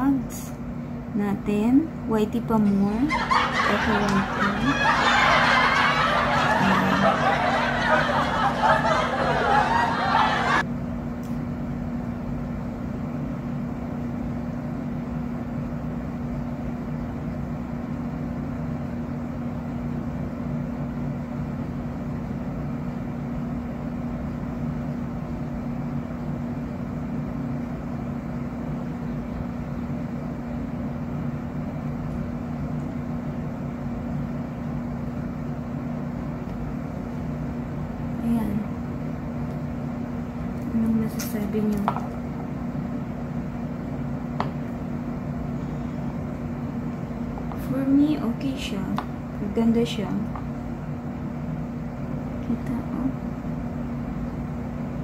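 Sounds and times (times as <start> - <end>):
air conditioner humming: 0.0 - 55.0.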